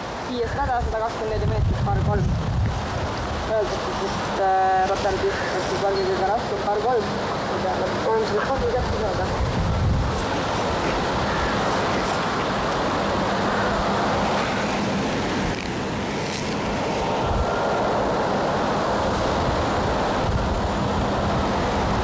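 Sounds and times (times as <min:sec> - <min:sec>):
wind blowing on microphone: 0:00.1 - 0:06.2, 0:08.1 - 0:22.0.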